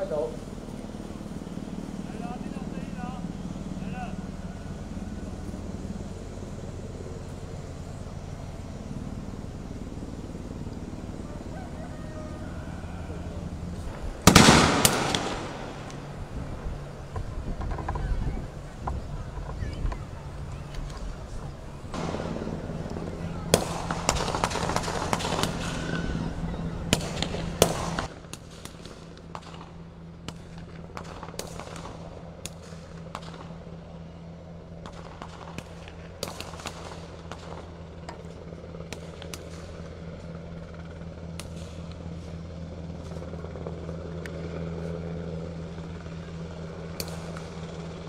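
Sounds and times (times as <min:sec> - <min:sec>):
helicopter rotor drone: 0:00.0 - 0:48.0.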